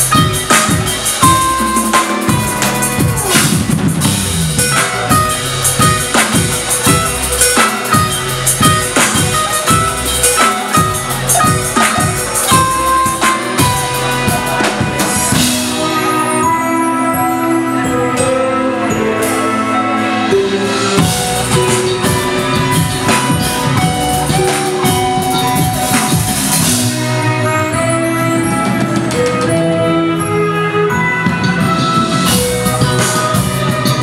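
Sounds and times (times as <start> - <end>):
acoustic drum kit: 0.0 - 34.0
electric guitar: 0.0 - 34.0
synth keyboard chords: 0.0 - 34.0.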